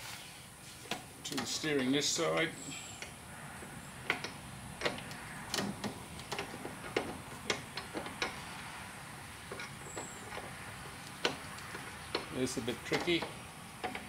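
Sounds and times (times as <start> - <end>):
sharp metal clicks and knocks: 0.9 - 8.6, 9.4 - 14.0.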